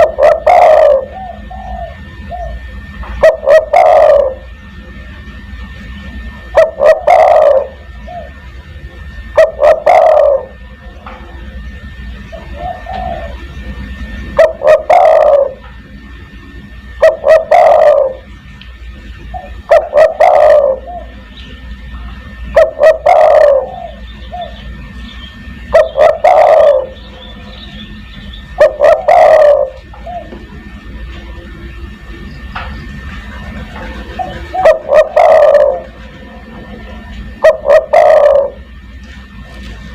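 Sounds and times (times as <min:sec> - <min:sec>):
dove cooing: 0:00.0 - 0:39.9
low steady hum: 0:00.0 - 0:39.9.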